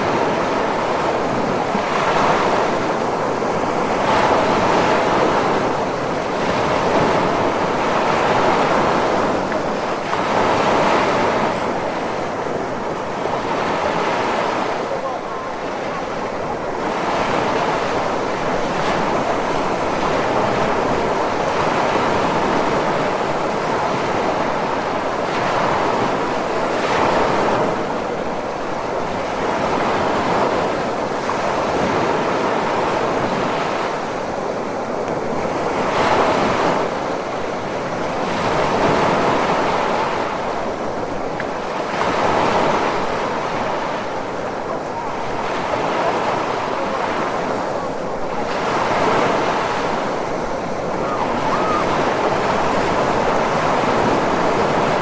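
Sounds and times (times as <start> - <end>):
ocean waves breaking: 0.0 - 55.0
wind: 0.0 - 55.0.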